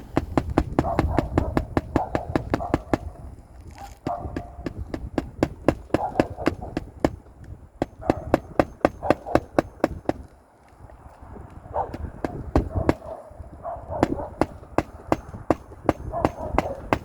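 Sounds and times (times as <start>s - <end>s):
hammer driving nails into shingles: 0.0s - 10.4s, 11.9s - 13.2s, 13.9s - 17.0s.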